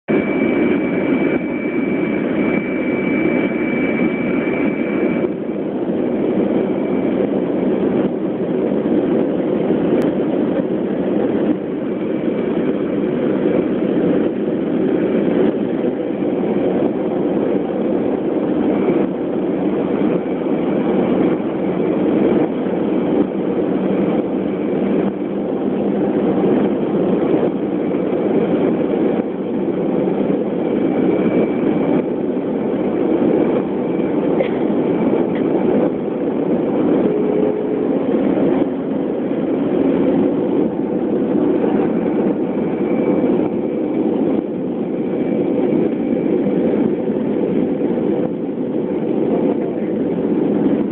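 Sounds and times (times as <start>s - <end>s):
jet engine rumble: 0.0s - 50.9s
faint high whine: 0.1s - 10.0s, 11.2s - 50.8s.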